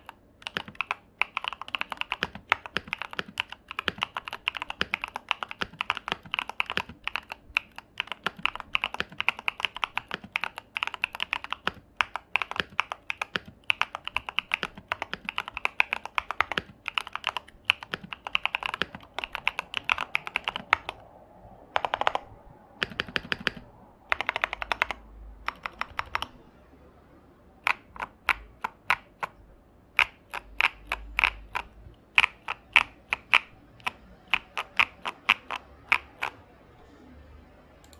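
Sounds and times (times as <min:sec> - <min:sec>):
mechanical keyboard key clacking: 0:00.0 - 0:21.0, 0:21.8 - 0:22.2, 0:22.8 - 0:26.3, 0:27.6 - 0:29.4, 0:30.0 - 0:36.4.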